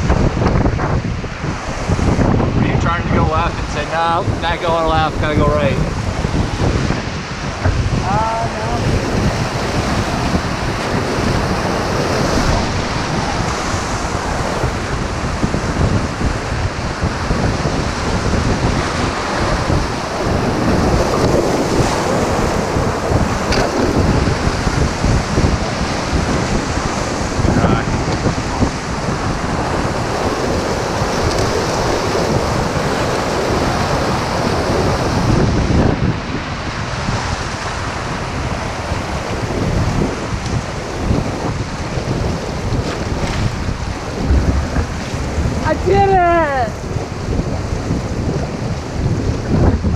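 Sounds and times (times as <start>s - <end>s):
wind buffeting microphone: 0.0s - 49.9s
whitewater rapids rushing: 3.0s - 47.4s.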